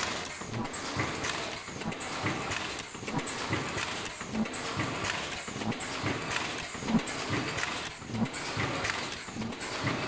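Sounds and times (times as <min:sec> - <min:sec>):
welding machine knocking: 0:00.0 - 0:10.0.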